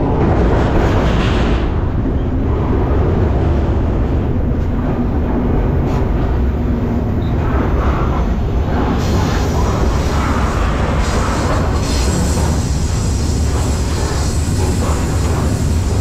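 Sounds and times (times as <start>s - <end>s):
freight train rumbling and rattling: 0.0s - 16.0s.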